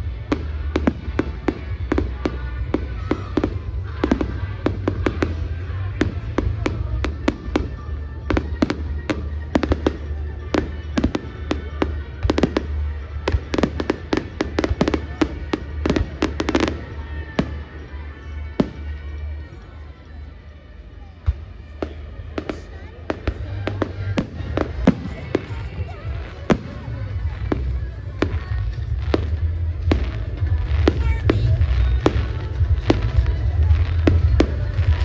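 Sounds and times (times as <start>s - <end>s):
firework bangs and crackles: 0.0s - 20.2s, 21.1s - 35.0s.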